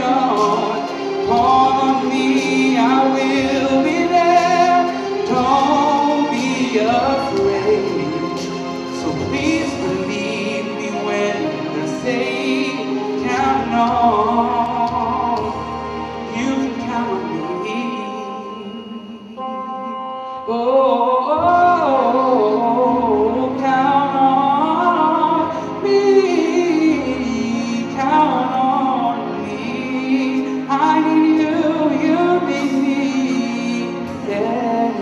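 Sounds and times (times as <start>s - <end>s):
instrumental backing track: 0.0s - 35.0s
man singing into microphone: 0.0s - 35.0s.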